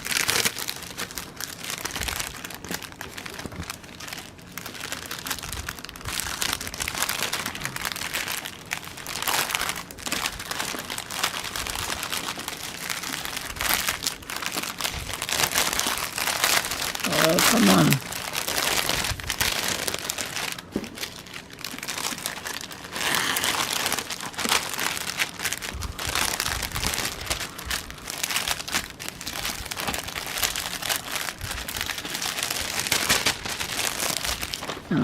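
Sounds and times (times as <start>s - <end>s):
packaging crinkling: 0.0s - 35.0s.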